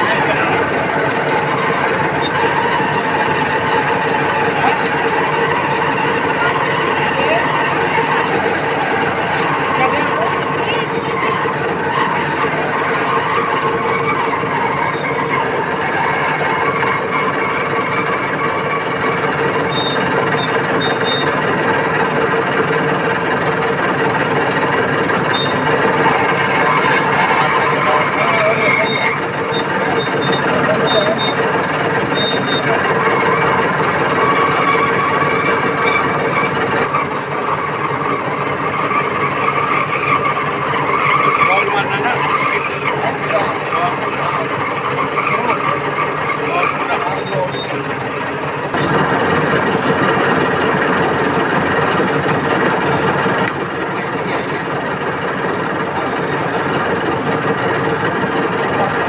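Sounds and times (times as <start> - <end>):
lathe humming with high whine: 0.0 - 59.0.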